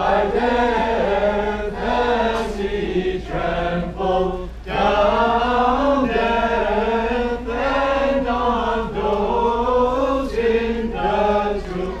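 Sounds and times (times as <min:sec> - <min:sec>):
voices singing a slow chant: 0:00.0 - 0:12.0.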